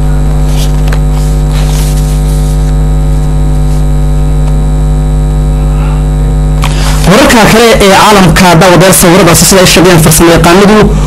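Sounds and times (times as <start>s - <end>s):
electrical mains hum and buzz: 0.0s - 11.0s.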